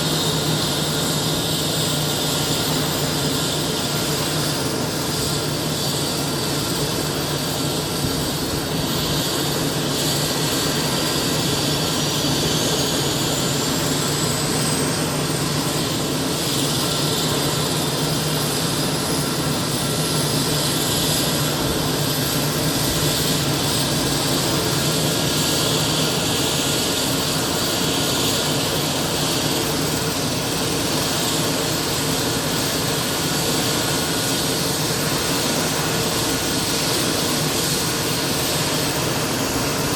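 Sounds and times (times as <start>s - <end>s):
helicopter running: 0.0s - 39.9s
high turbine whine: 0.0s - 39.9s.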